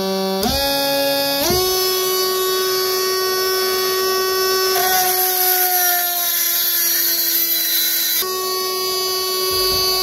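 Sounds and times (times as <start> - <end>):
rotary tool high whine: 0.0 - 10.0.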